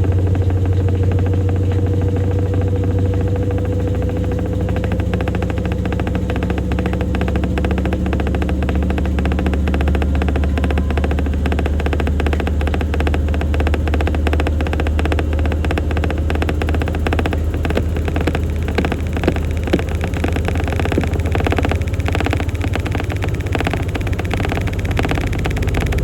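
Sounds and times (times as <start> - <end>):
washing machine drum humming: 0.0 - 26.0.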